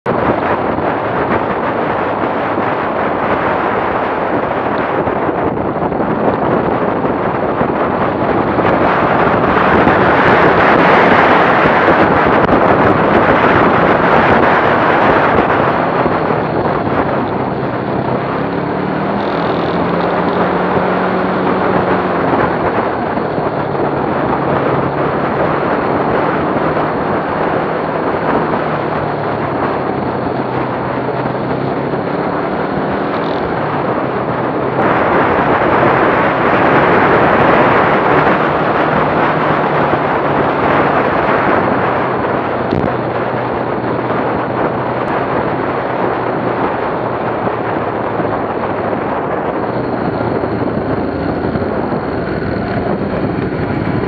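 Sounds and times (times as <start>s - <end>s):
motorcycle engine drone: 0.0s - 54.0s
wind rush on microphone: 0.0s - 54.0s.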